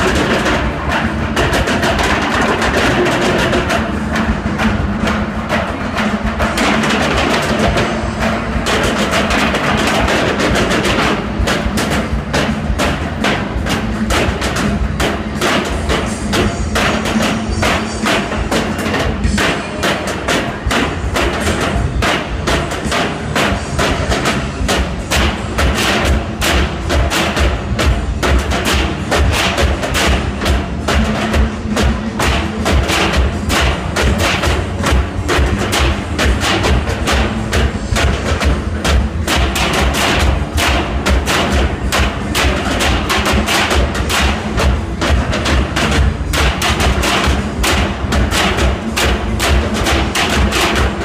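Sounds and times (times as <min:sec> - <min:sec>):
drumming on metal barrels: 0:00.0 - 0:51.0.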